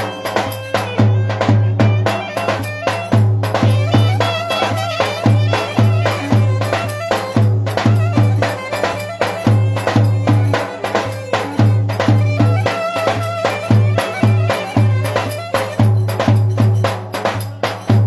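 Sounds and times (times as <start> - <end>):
wavering melody line: 0.0 - 17.0
heavy steady drum beat: 0.0 - 18.0.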